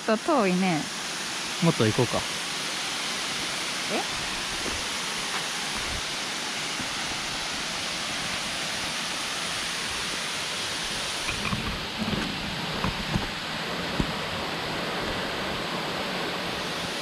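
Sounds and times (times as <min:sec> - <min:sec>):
waterfall pouring: 0:00.3 - 0:15.3.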